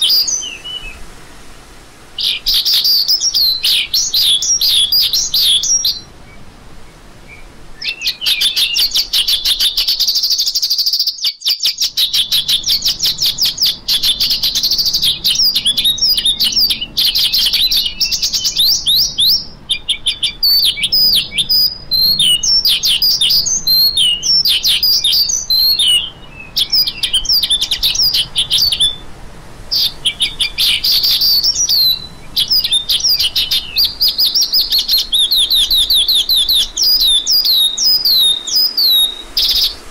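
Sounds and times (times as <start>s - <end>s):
lark singing chirps and trills: 0.0s - 1.0s, 2.2s - 39.9s.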